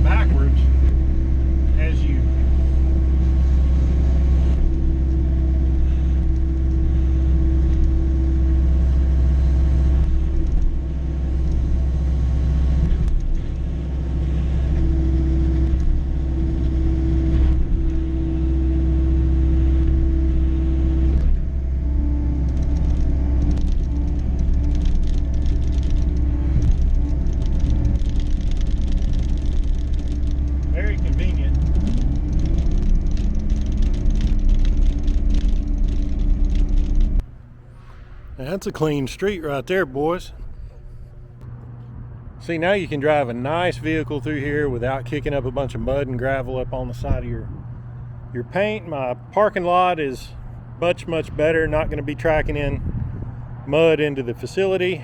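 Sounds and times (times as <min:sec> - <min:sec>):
diesel engine running under load: 0:00.0 - 0:55.0
hydraulic whine: 0:00.0 - 0:55.0.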